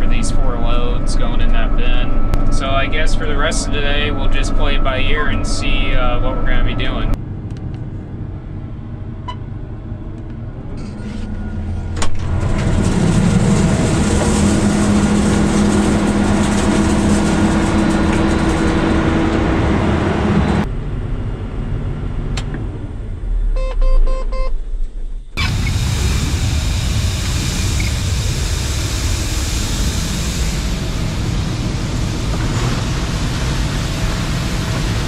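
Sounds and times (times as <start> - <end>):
combine harvester running: 0.0 - 23.5, 24.6 - 35.0
loud steady hum: 0.0 - 35.0.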